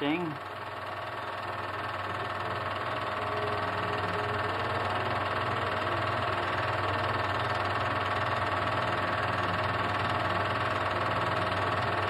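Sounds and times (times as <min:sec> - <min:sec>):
film projector whirring: 0:00.0 - 0:12.0.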